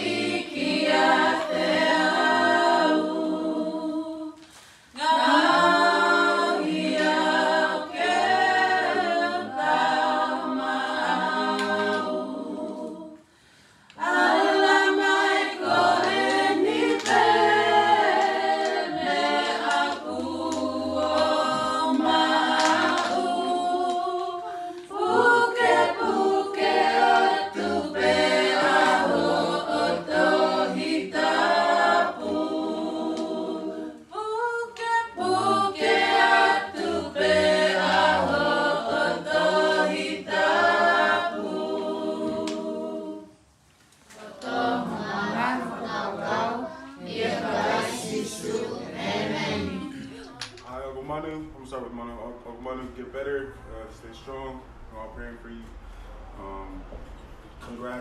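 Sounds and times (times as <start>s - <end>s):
a cappella choir singing: 0.0s - 50.8s, 53.7s - 58.0s.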